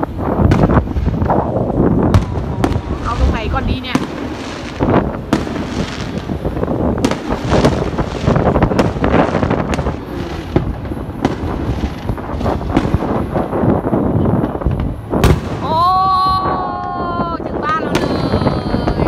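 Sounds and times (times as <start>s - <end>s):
fireworks bangs: 0.0s - 19.0s
fireworks rumble and crackle: 0.0s - 19.0s.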